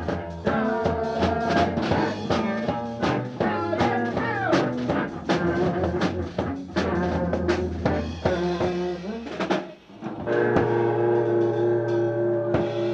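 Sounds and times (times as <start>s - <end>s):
drum kit strikes: 0.0s - 11.3s
rock band playing: 0.0s - 12.9s.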